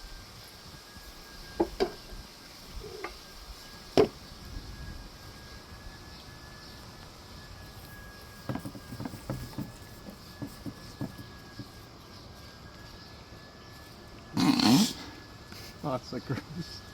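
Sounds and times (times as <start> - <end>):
faint high-pitched whine: 0.0 - 16.9.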